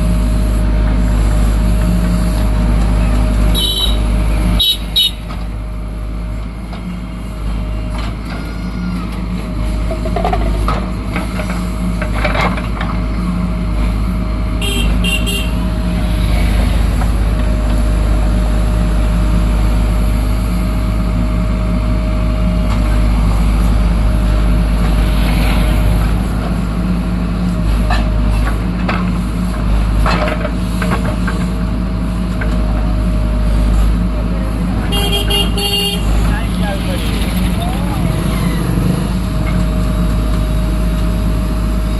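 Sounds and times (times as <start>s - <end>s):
diesel engine under load: 0.0s - 41.9s.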